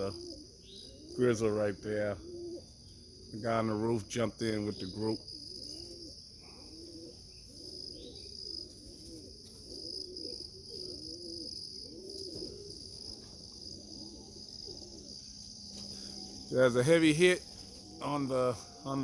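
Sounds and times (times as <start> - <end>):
high-pitched insect drone: 0.0 - 19.0
pigeons cooing: 0.0 - 19.0.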